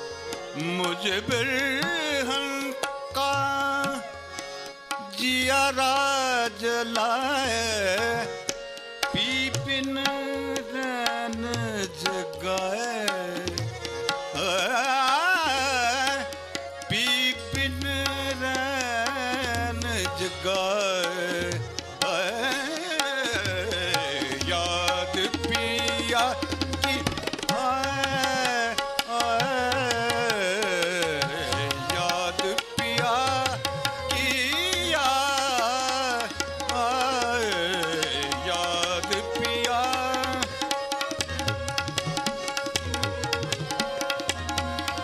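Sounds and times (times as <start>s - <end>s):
tabla: 0.0s - 45.0s.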